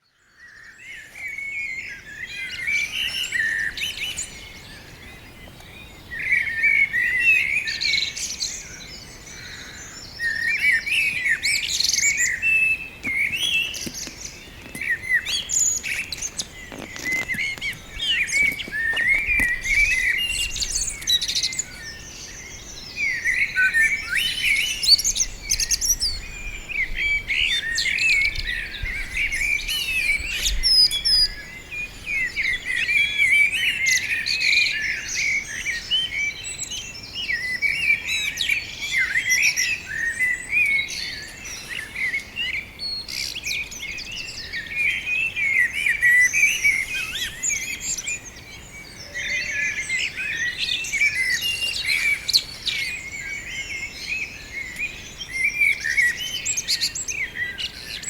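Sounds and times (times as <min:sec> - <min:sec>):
songbirds singing and twittering: 0:00.0 - 0:58.0.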